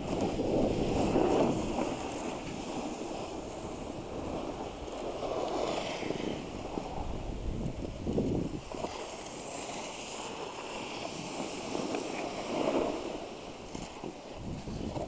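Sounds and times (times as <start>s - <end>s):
snowboard scraping on snow: 0.0s - 15.0s
wind over microphone: 0.0s - 15.0s.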